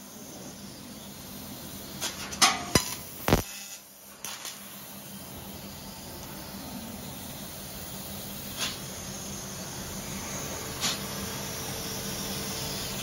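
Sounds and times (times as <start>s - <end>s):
laser cutter hissing and humming: 0.0s - 13.0s.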